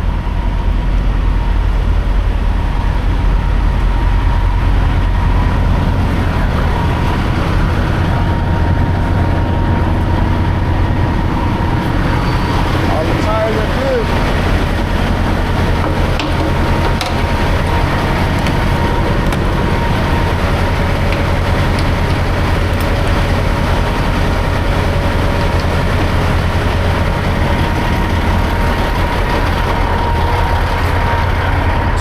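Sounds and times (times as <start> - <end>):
faint steady whine: 0.0 - 32.0
truck diesel engine and road noise: 0.0 - 32.0.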